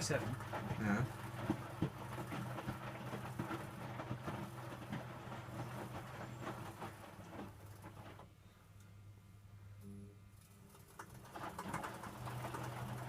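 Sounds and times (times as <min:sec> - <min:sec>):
washing machine drum sloshing: 0:00.0 - 0:08.3, 0:10.7 - 0:13.0
washing machine low hum: 0:00.0 - 0:13.0.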